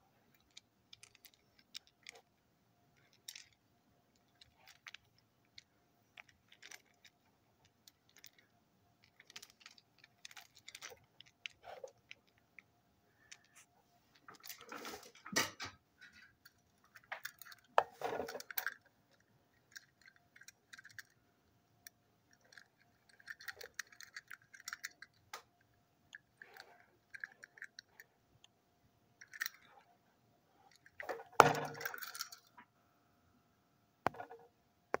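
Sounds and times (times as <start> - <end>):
faint steady hum: 0.0 - 35.0
small toys clicking and rattling: 0.2 - 28.1, 29.2 - 29.9, 30.6 - 32.6.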